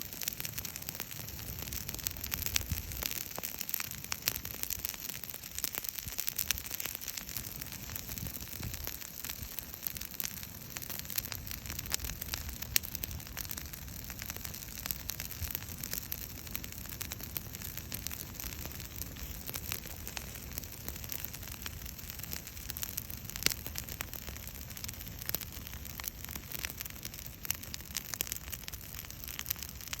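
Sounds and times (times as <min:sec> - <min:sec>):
bonfire crackling: 0:00.0 - 0:30.0.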